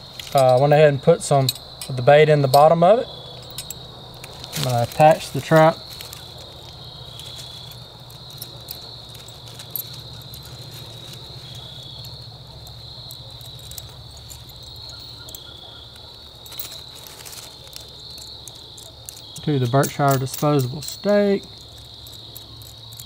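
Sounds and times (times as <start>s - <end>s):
insects chirping: 0.0s - 23.0s
light metal clicks: 0.1s - 23.0s.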